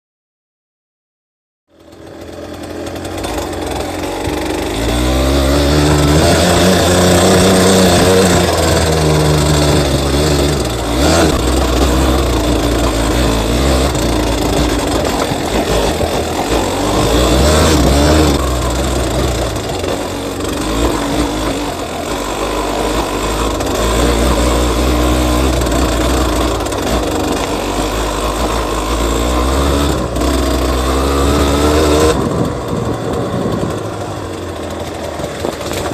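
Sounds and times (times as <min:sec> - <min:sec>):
two-stroke engine revving: 0:01.7 - 0:35.9.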